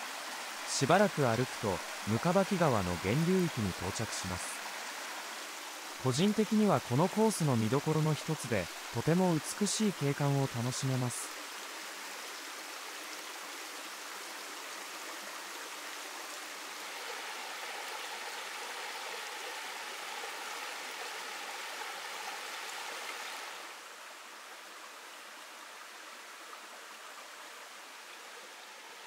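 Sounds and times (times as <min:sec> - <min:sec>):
mountain stream flowing: 0:00.0 - 0:29.0.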